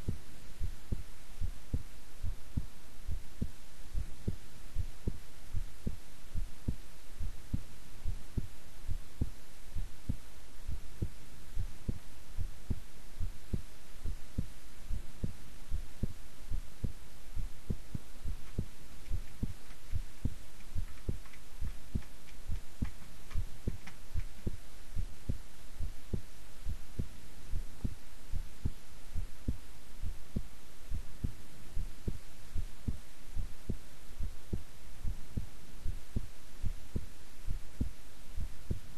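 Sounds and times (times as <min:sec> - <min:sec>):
heartbeat thuds: 0:00.0 - 0:38.9
low hum: 0:00.0 - 0:38.9.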